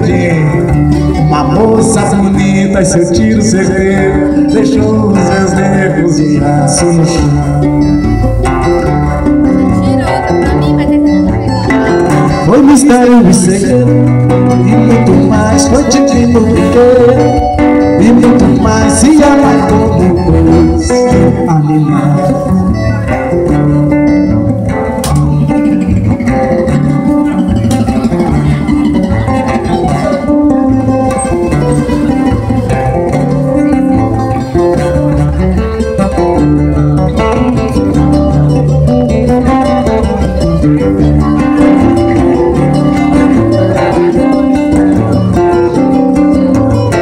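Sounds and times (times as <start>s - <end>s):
acoustic guitar strumming: 0.0s - 47.0s
mandolin playing: 0.0s - 47.0s.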